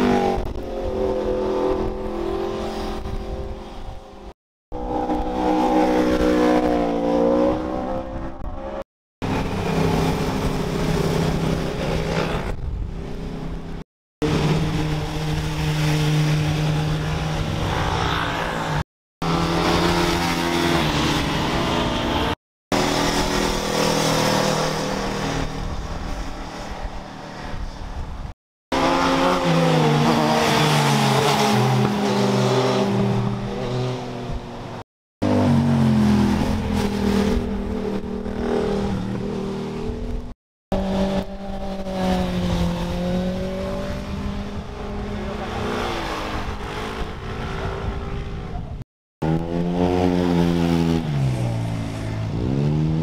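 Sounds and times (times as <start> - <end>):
vehicle engines passing by: 0.0 - 53.0.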